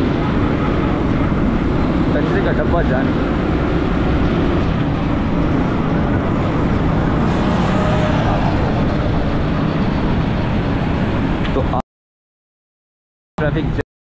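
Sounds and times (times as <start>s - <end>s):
traffic: 0.0s - 11.8s, 13.4s - 13.8s
wind on microphone: 0.0s - 11.8s.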